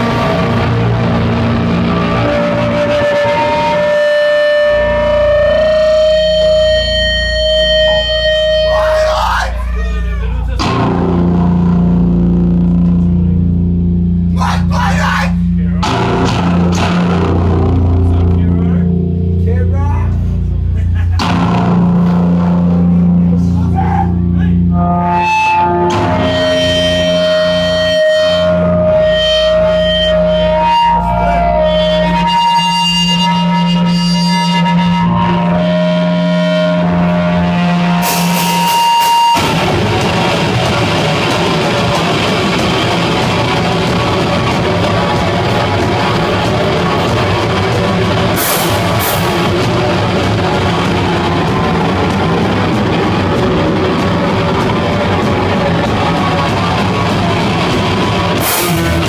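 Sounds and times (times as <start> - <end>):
metal band playing: 0.0 - 59.0
sustained guitar tones: 0.0 - 59.0.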